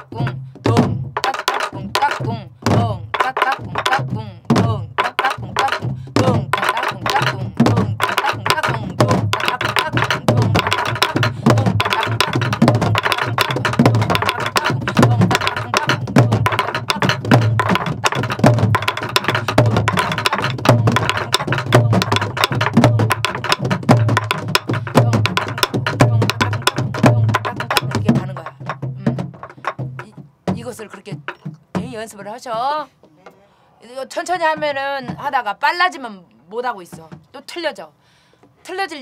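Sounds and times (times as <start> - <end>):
barrel drums played together: 0.0 - 32.7, 34.4 - 35.4.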